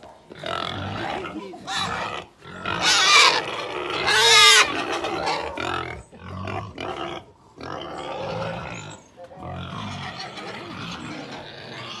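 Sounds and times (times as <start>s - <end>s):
pigs grunting: 0.0s - 12.0s
pigs squealing: 0.3s - 12.0s.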